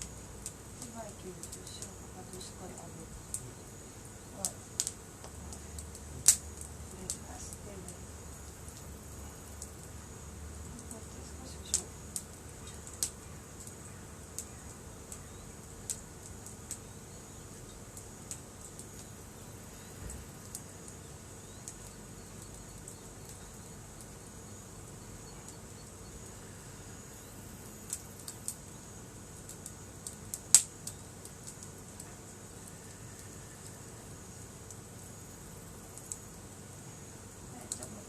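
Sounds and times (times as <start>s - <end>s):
campfire crackling and popping: 0.0s - 38.0s
faint high-pitched hum: 0.0s - 38.0s.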